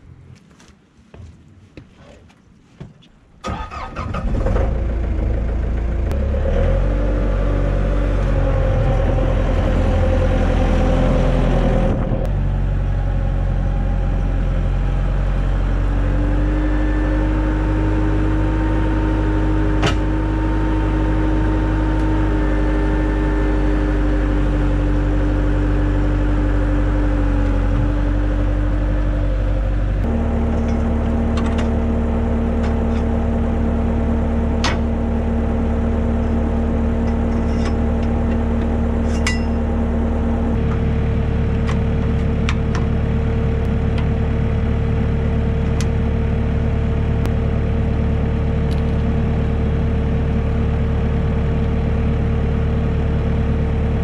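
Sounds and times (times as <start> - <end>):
diesel engine starting and running: 3.3 - 54.0.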